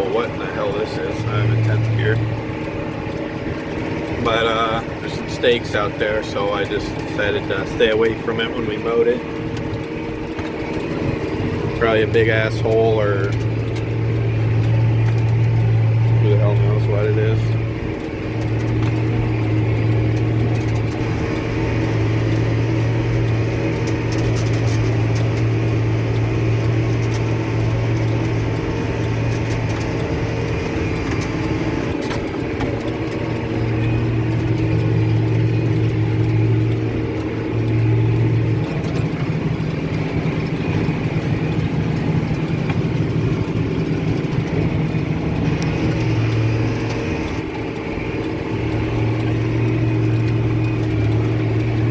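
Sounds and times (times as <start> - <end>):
baler working: 0.0 - 51.9
deep hum: 0.0 - 51.9
tractor engine running: 0.0 - 51.9.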